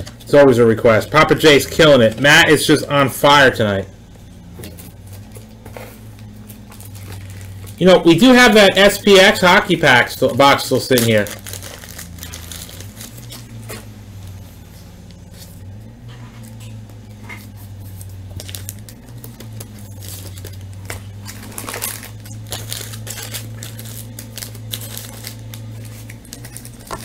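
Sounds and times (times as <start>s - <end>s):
plastic sleeves crinkling: 0.0s - 27.0s
steady low hum: 0.0s - 27.0s.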